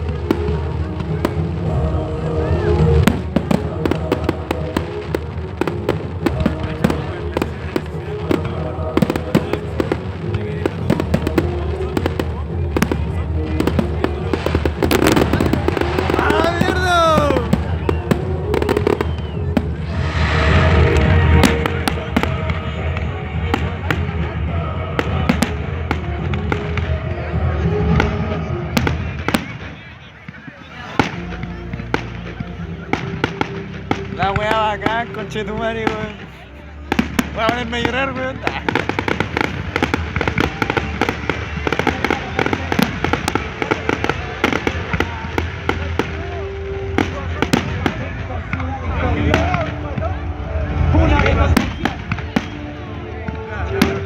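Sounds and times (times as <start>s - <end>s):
background music: 0.0s - 54.0s
fireworks bangs and crackles: 0.0s - 54.0s.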